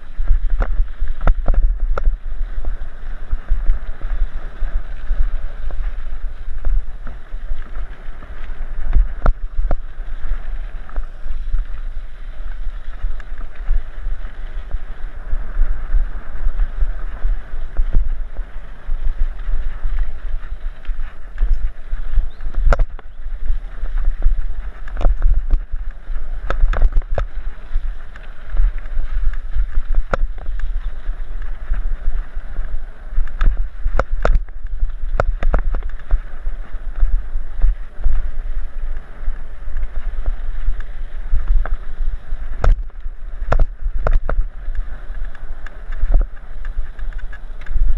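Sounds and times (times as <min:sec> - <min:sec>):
bike tyre rumble on dirt: 0:00.0 - 0:47.9
wind buffeting microphone: 0:00.0 - 0:47.9.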